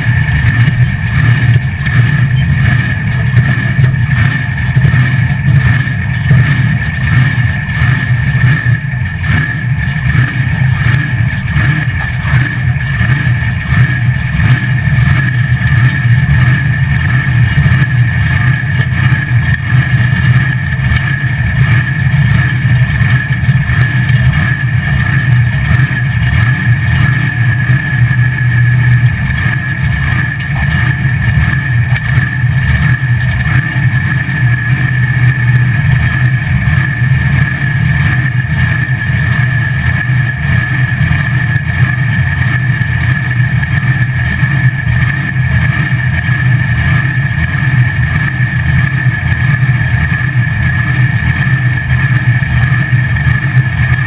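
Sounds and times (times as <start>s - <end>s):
drag-race engine rumbling: 0.0s - 54.0s.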